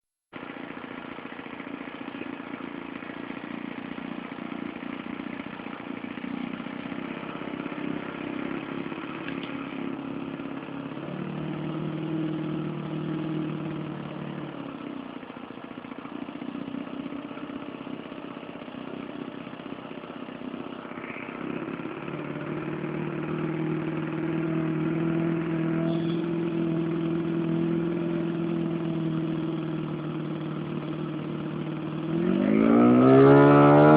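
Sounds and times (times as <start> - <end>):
model airplane engine running: 0.4 - 32.5.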